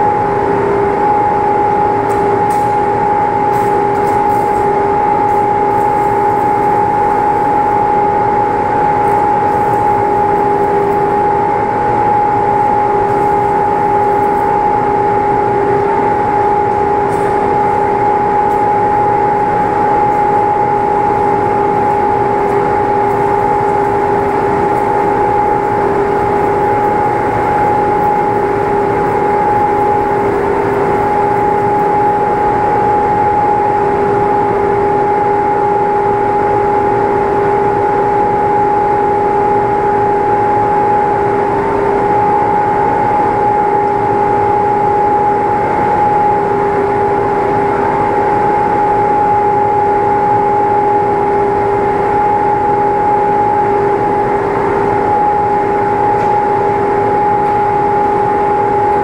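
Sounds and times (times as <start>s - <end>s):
mechanical hum with pitched tone: 0.0s - 59.0s.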